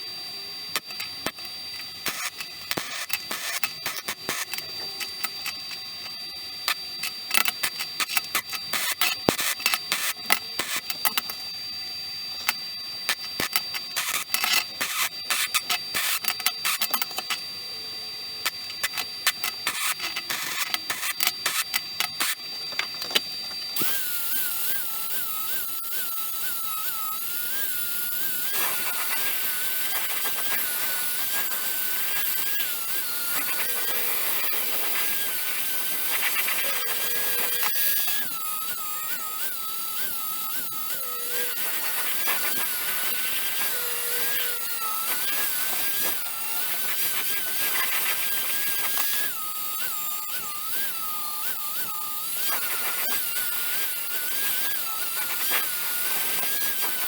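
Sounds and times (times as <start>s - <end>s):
electric power tool running: 0.0s - 57.0s.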